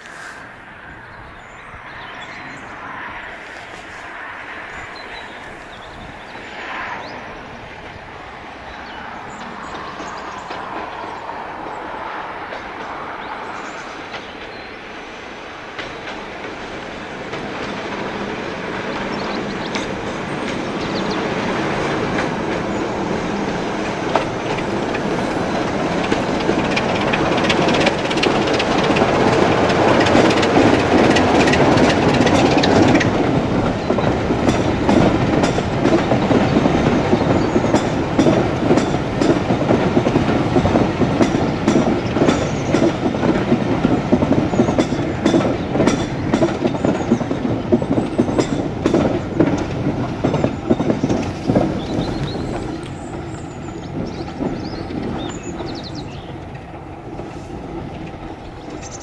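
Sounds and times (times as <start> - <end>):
diesel locomotive passing: 0.0 - 59.0
wheels clacking over rail joints: 1.4 - 59.0.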